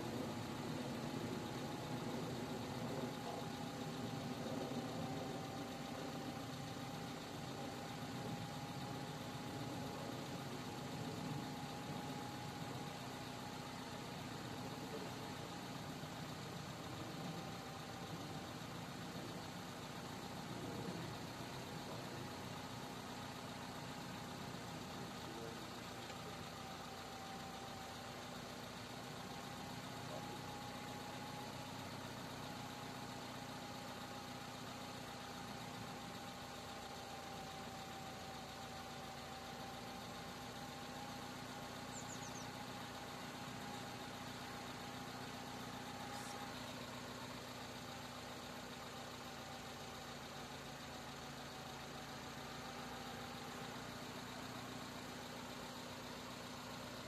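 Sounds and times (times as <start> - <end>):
van engine idling: 0.0 - 57.0.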